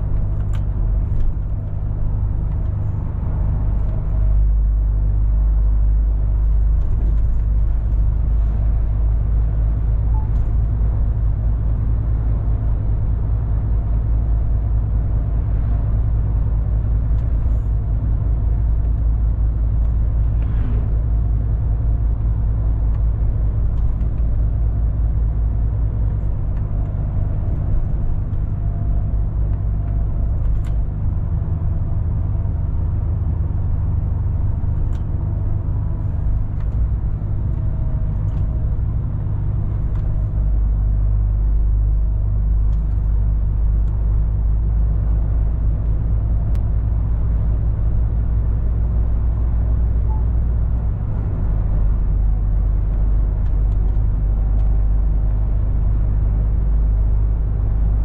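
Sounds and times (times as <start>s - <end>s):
road and tyre noise: 0.0s - 58.0s
truck diesel engine drone: 0.0s - 58.0s.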